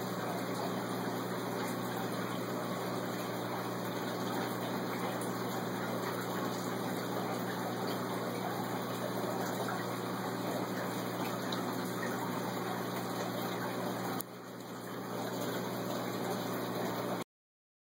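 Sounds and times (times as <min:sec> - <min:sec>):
water rushing: 0:00.0 - 0:17.2.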